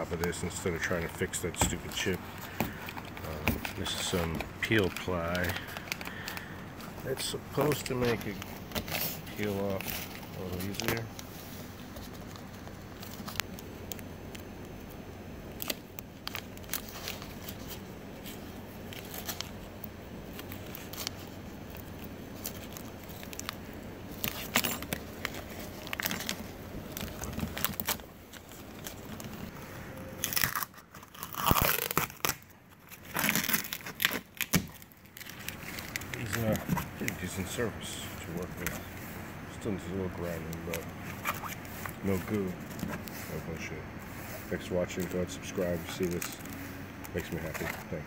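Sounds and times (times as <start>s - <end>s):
plastic sheet rustling: 0.0s - 13.6s, 15.5s - 48.0s.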